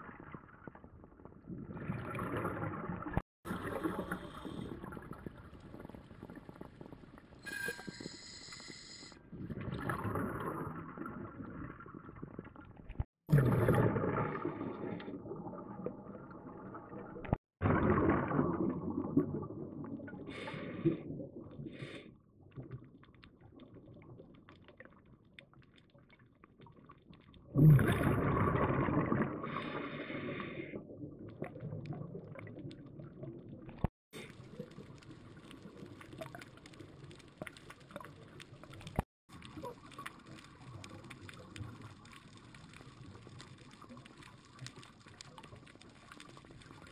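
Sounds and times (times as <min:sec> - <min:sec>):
underwater exhaled bubbles rushing: 0:00.0 - 0:07.4, 0:09.2 - 0:25.0, 0:27.4 - 0:46.9.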